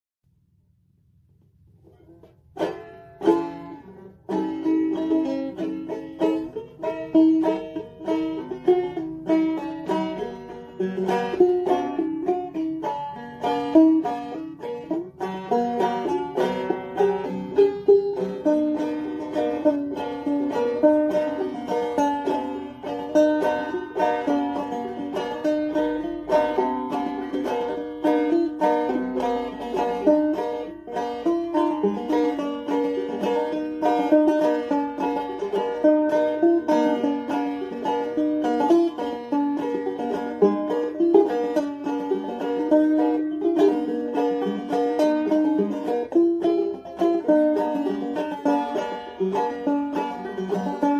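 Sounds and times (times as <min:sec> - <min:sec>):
banjo picking: 0:00.3 - 0:50.9.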